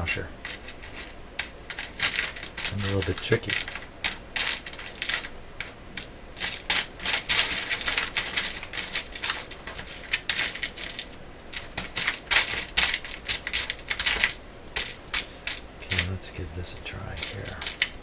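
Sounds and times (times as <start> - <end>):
metal washers and screws clinking: 0.0 - 18.0.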